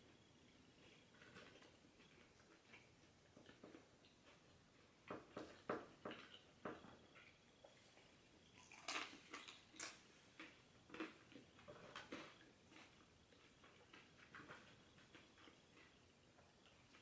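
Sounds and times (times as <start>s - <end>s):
close chewing and mouth sounds: 0.0s - 17.0s.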